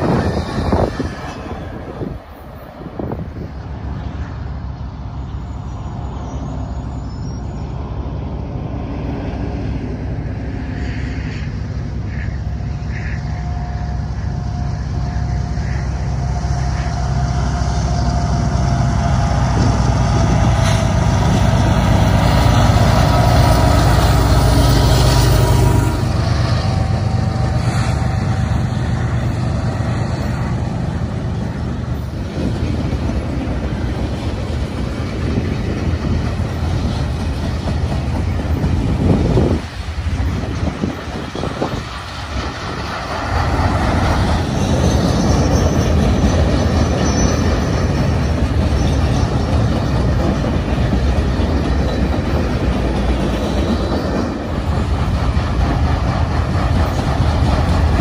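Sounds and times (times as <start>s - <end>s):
diesel locomotive engines rumbling: 0.0s - 58.0s.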